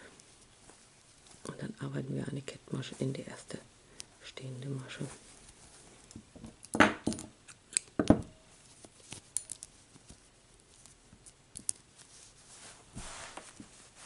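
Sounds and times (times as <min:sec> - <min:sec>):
soft rustle: 0:00.0 - 0:06.5, 0:08.4 - 0:14.0.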